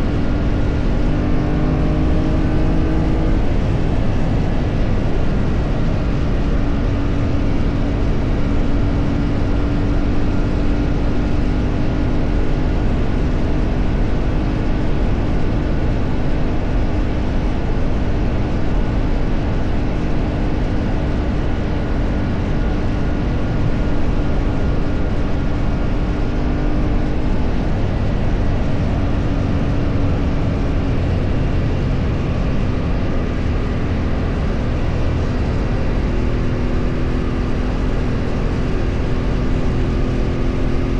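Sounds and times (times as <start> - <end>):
road and wind noise: 0.0 - 40.9
vehicle engine running: 0.0 - 40.9.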